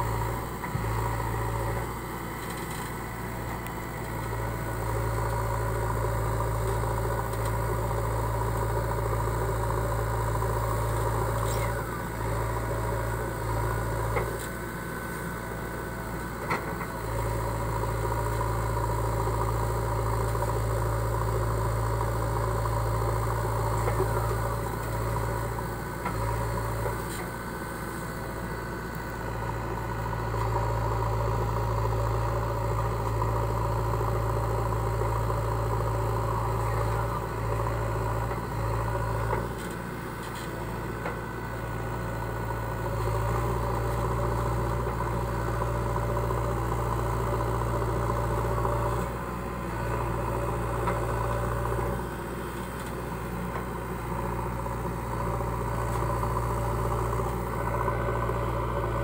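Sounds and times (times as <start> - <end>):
backhoe digging soil: 0.0 - 59.0
diesel engine running: 0.0 - 59.0.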